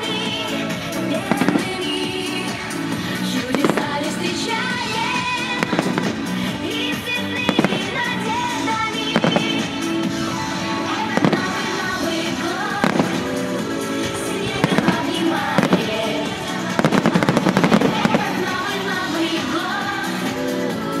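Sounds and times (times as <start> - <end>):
fireworks bangs and crackling: 0.0 - 20.4
music: 0.0 - 21.0.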